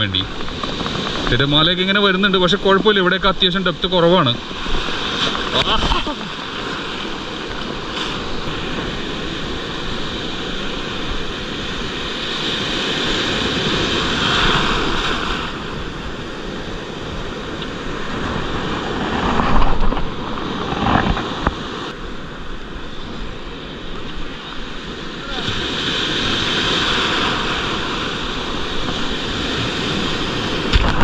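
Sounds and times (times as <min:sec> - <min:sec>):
small waves breaking: 0:00.0 - 0:31.0
wind rumbling on microphone: 0:00.0 - 0:31.0.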